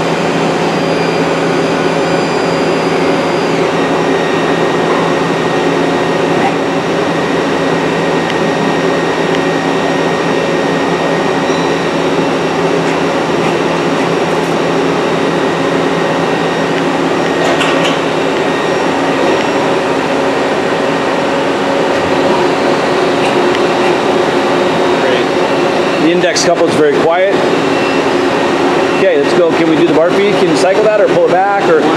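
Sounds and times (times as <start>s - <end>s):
lathe machine whirring: 0.0s - 31.9s.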